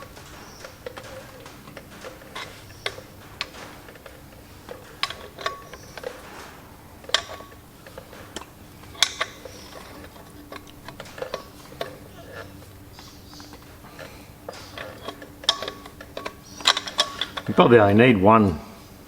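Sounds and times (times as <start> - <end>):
wrench clicking on metal bolts: 0.0 - 17.8
sharp metallic knocks: 0.0 - 18.0.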